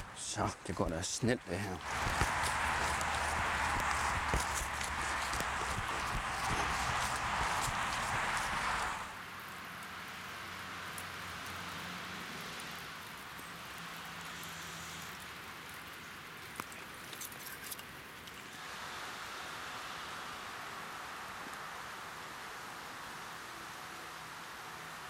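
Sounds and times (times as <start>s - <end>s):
light rain falling: 0.0s - 25.0s.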